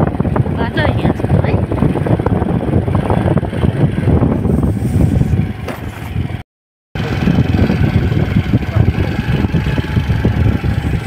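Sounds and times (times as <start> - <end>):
vehicle engine and road noise: 0.0 - 6.4, 7.0 - 11.0.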